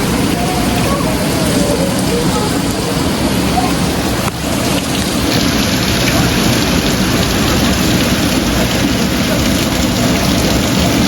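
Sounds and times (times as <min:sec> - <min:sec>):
heavy rain: 0:00.0 - 0:11.0
strong wind: 0:00.0 - 0:11.0.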